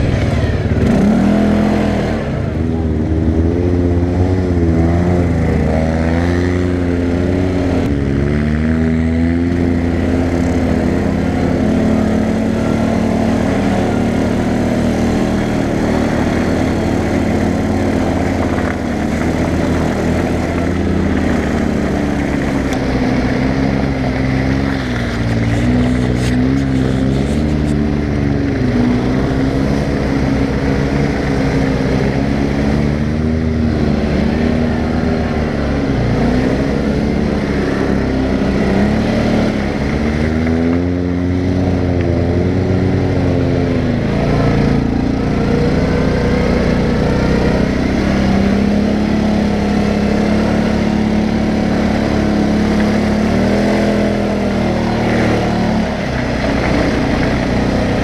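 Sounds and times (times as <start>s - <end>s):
quad engine revving: 0.0s - 58.0s
wind: 0.0s - 58.0s.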